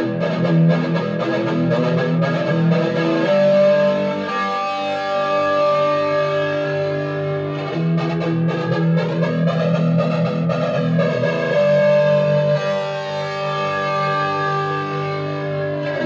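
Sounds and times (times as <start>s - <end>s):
electric guitar with flanger: 0.0s - 16.0s.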